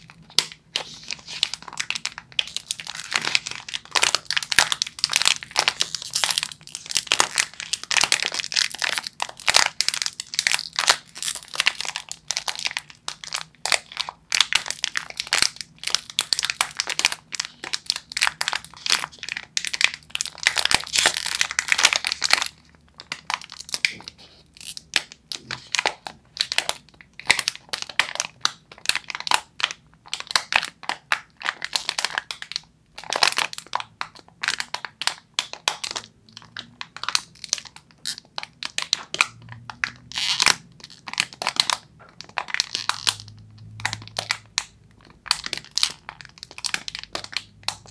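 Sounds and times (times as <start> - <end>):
plastic wrapper crinkling: 0.0 - 47.9.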